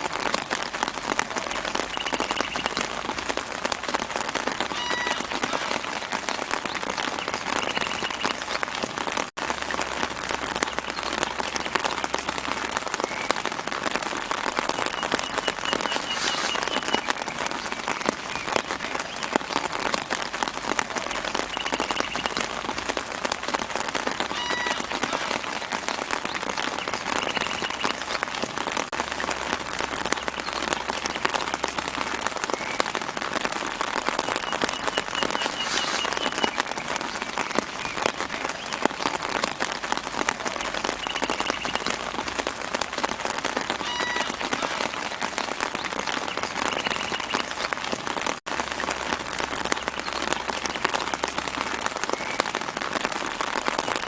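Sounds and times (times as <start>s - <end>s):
light rain pattering on leaves: 0.0s - 54.0s.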